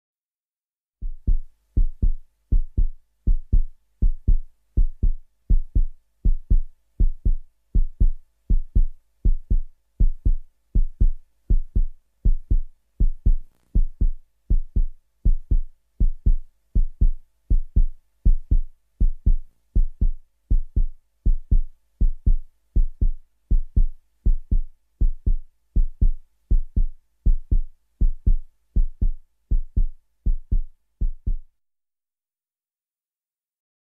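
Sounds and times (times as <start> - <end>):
heartbeat thumps: 1.0 - 31.5.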